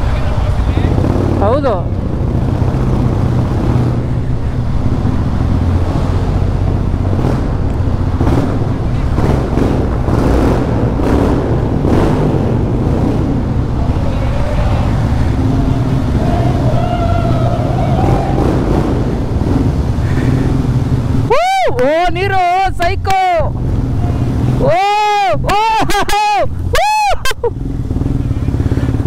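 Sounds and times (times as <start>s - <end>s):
motorcycle engine cruising: 0.0s - 29.0s.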